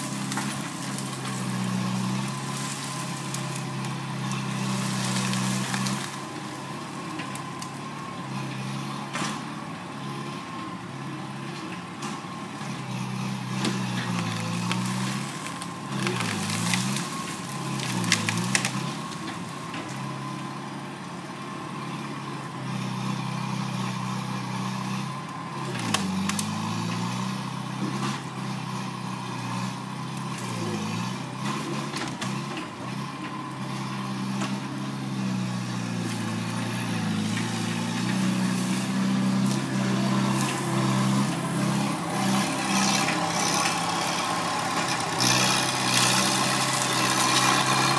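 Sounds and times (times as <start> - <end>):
loader engine under load: 0.0 - 47.9.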